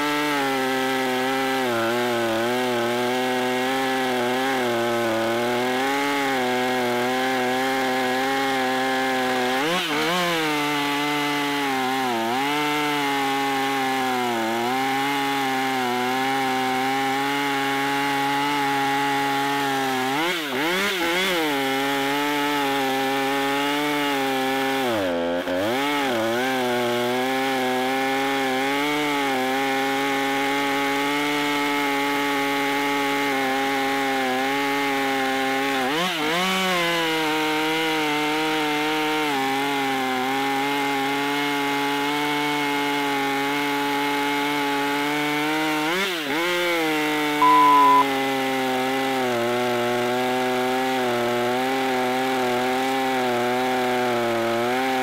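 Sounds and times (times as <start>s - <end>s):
chainsaw cutting through log: 0.0s - 55.0s.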